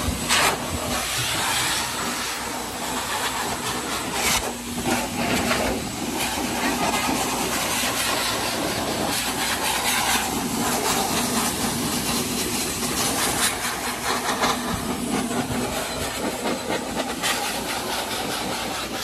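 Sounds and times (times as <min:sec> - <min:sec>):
dog dryer blowing air: 0:00.0 - 0:19.0.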